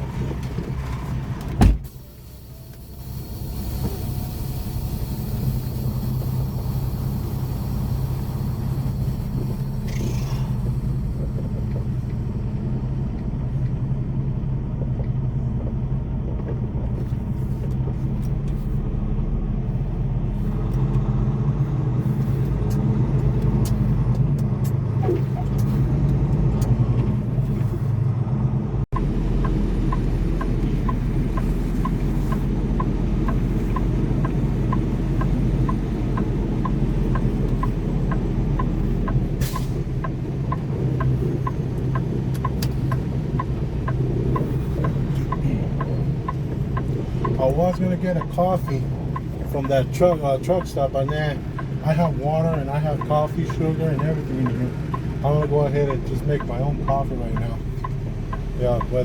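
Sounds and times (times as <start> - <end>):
truck diesel engine droning: 0.0 - 59.0
turn signal ticking: 1.6 - 59.0.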